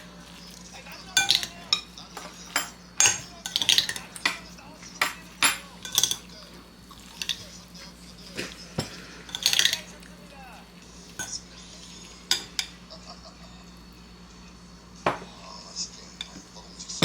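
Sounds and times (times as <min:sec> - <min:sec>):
metal utensils clinking on dishes: 0:00.0 - 0:13.9, 0:15.0 - 0:17.0.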